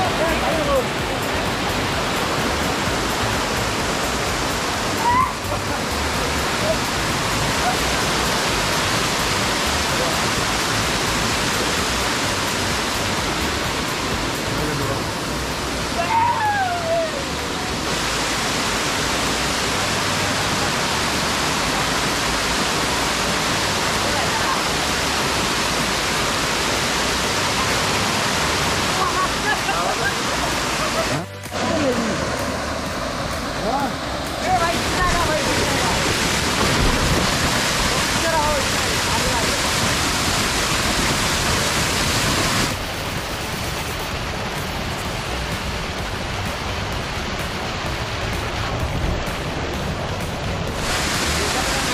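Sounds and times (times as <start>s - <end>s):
waterfall pouring: 0.0s - 51.9s.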